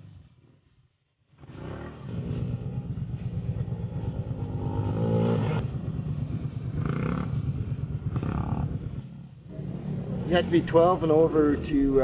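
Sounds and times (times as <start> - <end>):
atv engine revving: 1.4 - 12.0.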